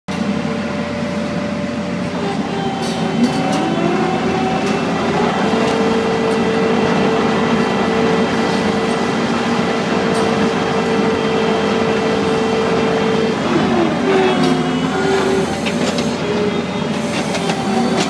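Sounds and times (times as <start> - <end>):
farm vehicle engine running: 0.1 - 18.0
steady whine: 0.1 - 18.0.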